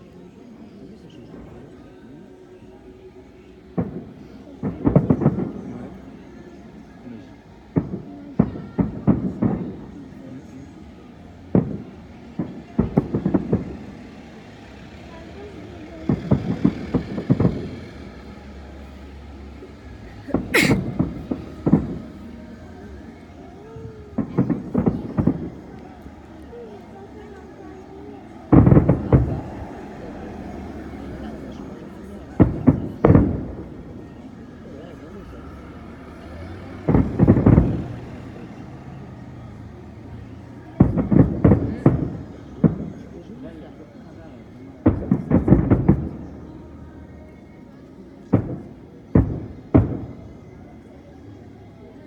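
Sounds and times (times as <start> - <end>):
fireworks banging: 3.7 - 6.1, 7.7 - 10.8, 11.4 - 47.1, 48.2 - 50.9.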